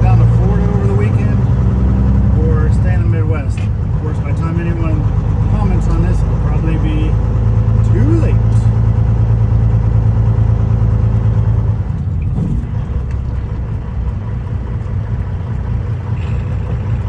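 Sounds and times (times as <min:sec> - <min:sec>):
truck diesel engine drone: 0:00.0 - 0:17.0.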